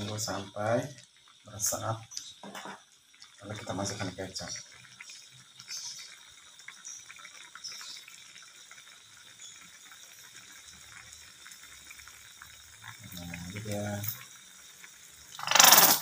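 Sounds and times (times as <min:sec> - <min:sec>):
broth simmering in a wok: 0:00.0 - 0:16.0.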